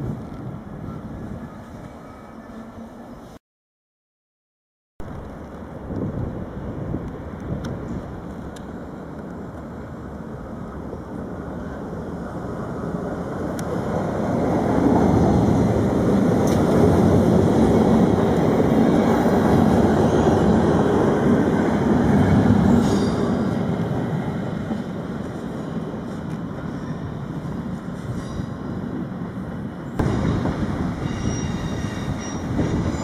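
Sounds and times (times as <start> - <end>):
train wheels rumbling on rail: 5.1 - 33.0.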